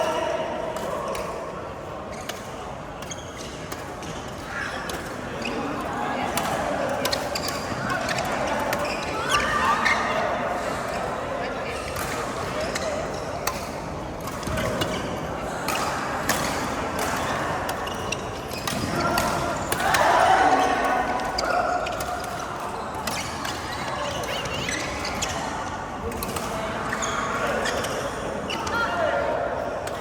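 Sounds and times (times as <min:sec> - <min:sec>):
players' voices: 0:00.0 - 0:30.0.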